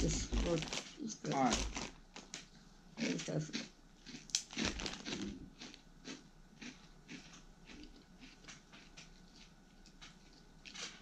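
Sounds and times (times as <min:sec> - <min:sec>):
crunching and chewing snacks: 0:00.0 - 0:11.0.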